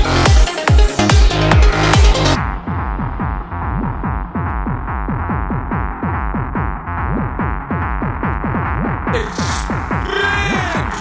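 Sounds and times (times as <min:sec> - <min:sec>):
electronic dance music: 0:00.0 - 0:11.0
steady low bass: 0:00.0 - 0:11.0.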